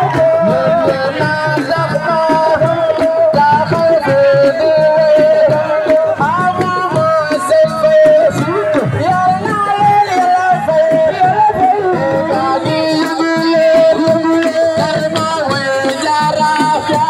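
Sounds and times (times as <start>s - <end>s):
hand-drum percussion: 0.0s - 17.0s.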